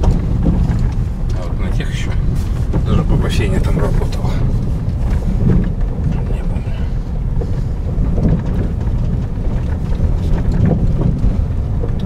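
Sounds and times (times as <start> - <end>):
car on gravel road rumble: 0.0 - 12.0.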